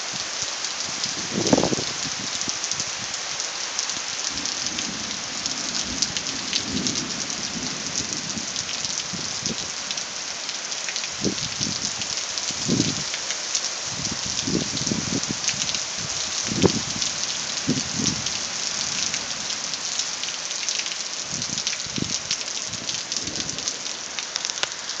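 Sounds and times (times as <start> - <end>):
heavy rain: 0.0 - 25.0
raindrops ticking on surface: 0.2 - 25.0.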